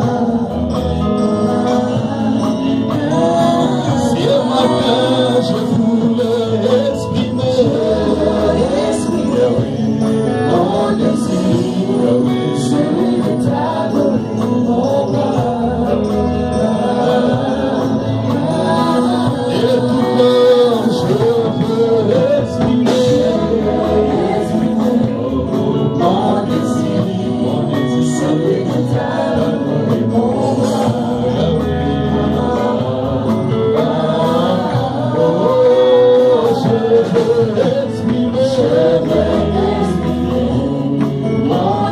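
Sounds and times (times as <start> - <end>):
church band playing: 0.0 - 41.9
man singing into microphone: 0.0 - 41.9.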